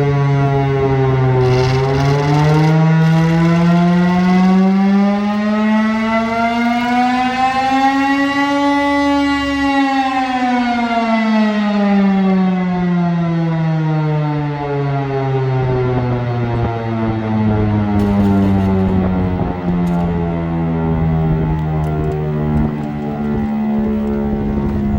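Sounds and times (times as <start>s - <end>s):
air raid siren wailing: 0.0s - 24.9s.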